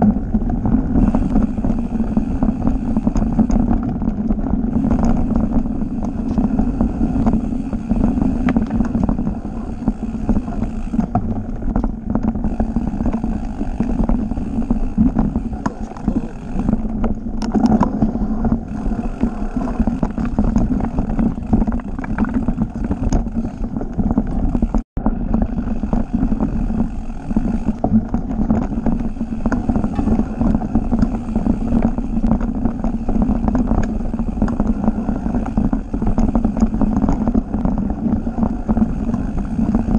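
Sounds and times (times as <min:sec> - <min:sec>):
bike rattles and clicks: 0:00.0 - 0:39.9
bike tyres rumbling on dirt: 0:00.0 - 0:39.9
wind buffeting microphone: 0:00.0 - 0:39.9.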